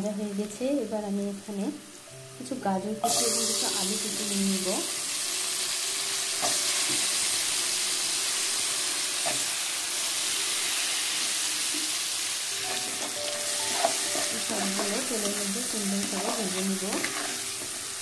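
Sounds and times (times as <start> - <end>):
oil sizzling in a frying pan: 0.0 - 18.0.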